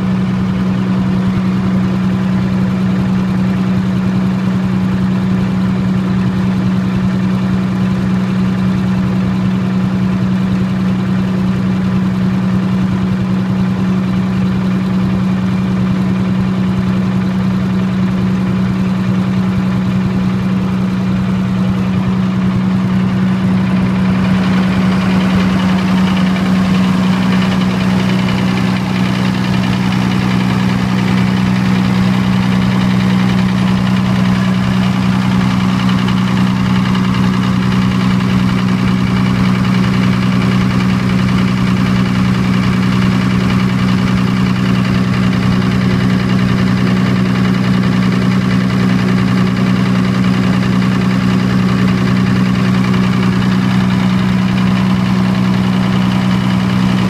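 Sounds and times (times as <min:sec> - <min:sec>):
diesel generator running: 0:00.0 - 0:57.0.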